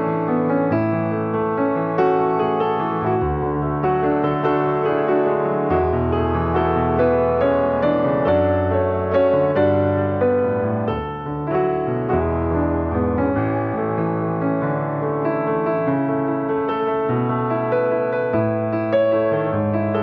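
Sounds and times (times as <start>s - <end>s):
soft piano playing: 0.0s - 20.0s.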